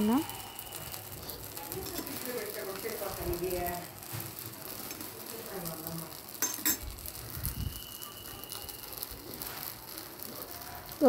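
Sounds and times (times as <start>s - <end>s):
batter sizzling on a hot griddle: 0.0s - 11.0s.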